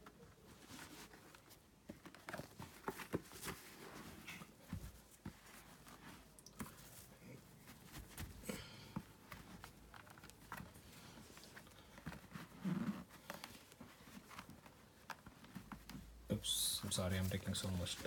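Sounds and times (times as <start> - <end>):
cloth bag rustling: 0.0 - 18.0.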